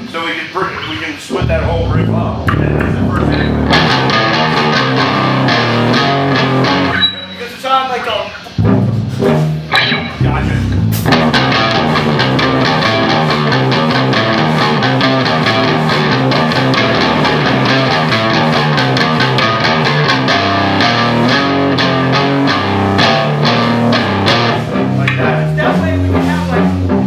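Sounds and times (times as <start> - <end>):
electric guitar: 1.3 - 7.3, 8.4 - 27.0
drum kit: 1.3 - 27.0.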